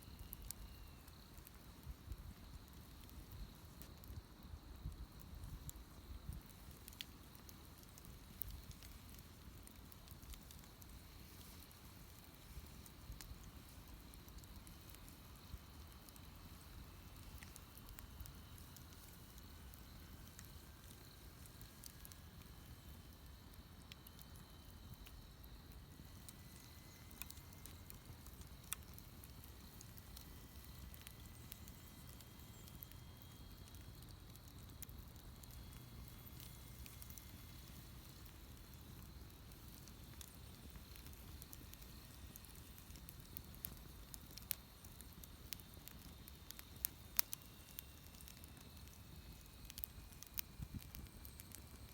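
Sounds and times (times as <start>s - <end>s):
bonfire crackling and popping: 0.0s - 51.9s
low fire rumble: 0.0s - 51.9s.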